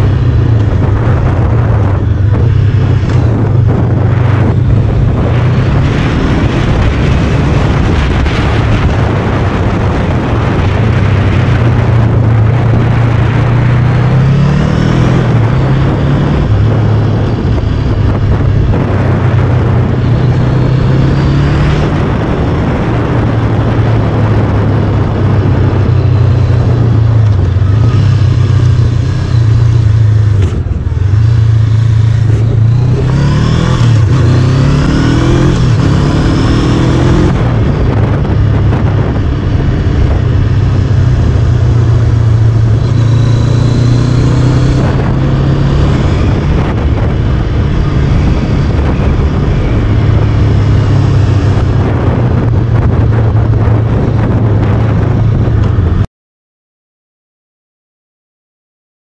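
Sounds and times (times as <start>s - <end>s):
motorcycle engine running: 0.0s - 56.1s
wind noise on microphone: 0.0s - 56.1s.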